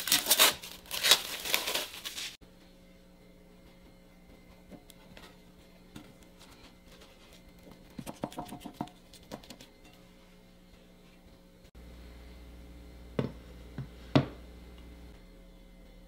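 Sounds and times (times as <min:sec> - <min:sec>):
low steady hum: 0:02.4 - 0:16.0.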